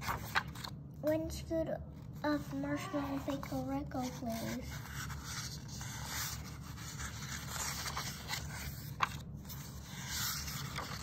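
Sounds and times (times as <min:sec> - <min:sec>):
paper pages rustling: 0:00.0 - 0:00.8, 0:02.0 - 0:11.0.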